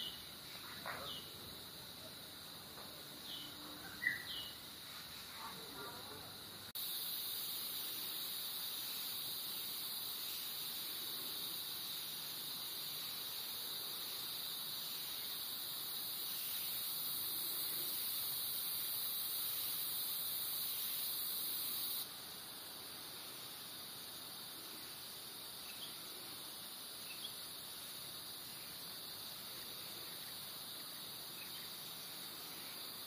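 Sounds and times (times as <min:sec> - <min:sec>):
insect chorus shrill drone: 0:00.0 - 0:33.0.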